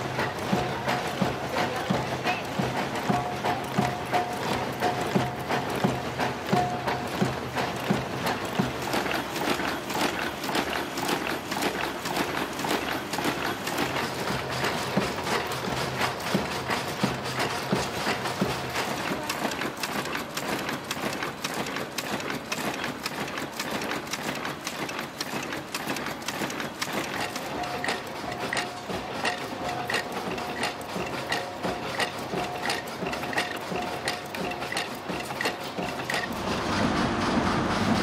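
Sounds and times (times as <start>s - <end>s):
machine metallic clatter: 0.0s - 38.0s.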